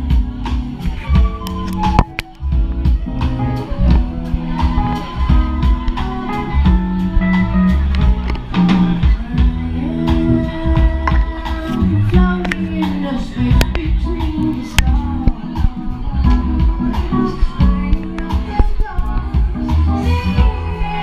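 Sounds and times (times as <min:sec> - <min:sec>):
electric bass: 0:00.0 - 0:21.0
electric guitar playing: 0:00.0 - 0:21.0.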